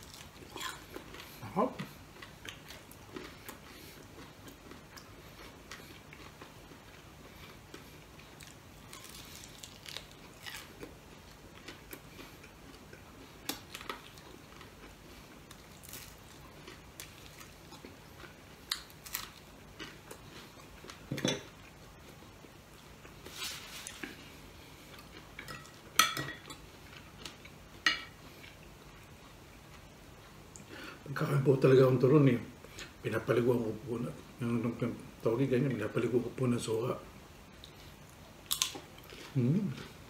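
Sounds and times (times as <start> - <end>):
person chewing crunchy food: 0.0 - 30.7, 37.6 - 40.0.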